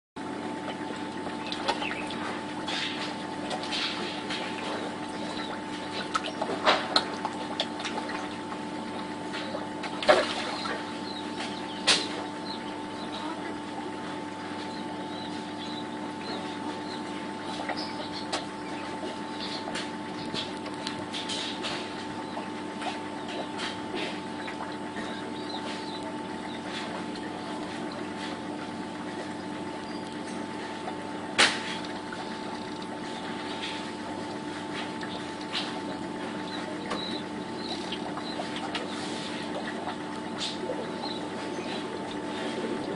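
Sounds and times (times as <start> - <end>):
fish splashing at pond surface: 0.2 - 42.9
steady low hum: 0.2 - 42.9.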